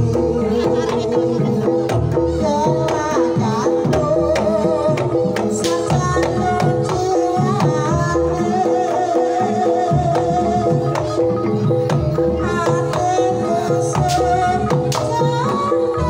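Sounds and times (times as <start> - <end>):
woman singing wavering line: 0.0 - 16.0.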